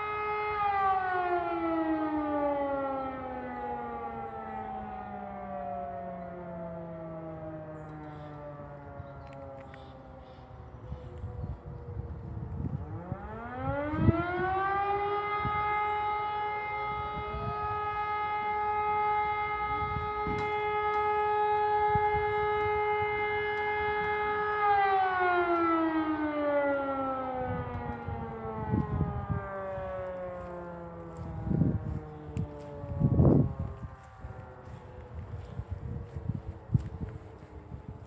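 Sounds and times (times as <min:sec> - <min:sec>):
rotary fire siren howling: 0:00.0 - 0:38.0.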